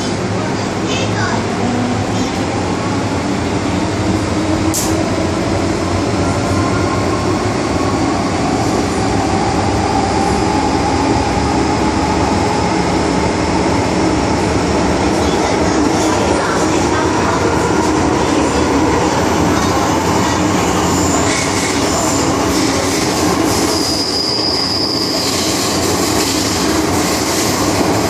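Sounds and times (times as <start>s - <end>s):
subway car wheels rumbling: 0.0s - 28.0s.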